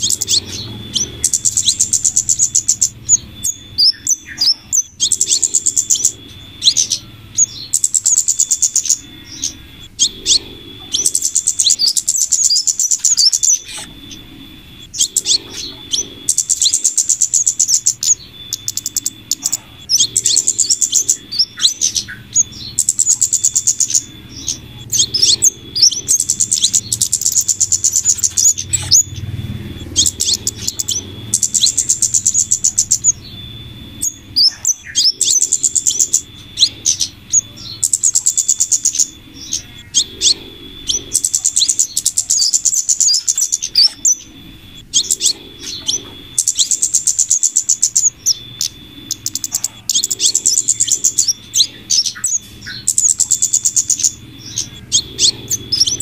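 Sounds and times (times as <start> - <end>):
high thin bird chirps: 0.0 - 56.0
thin high whine: 0.0 - 56.0.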